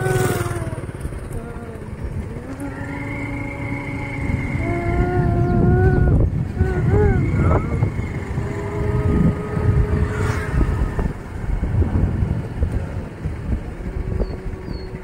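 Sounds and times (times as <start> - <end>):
passing vehicle traffic: 0.0 - 15.0
wind rumbling on microphone: 0.0 - 15.0.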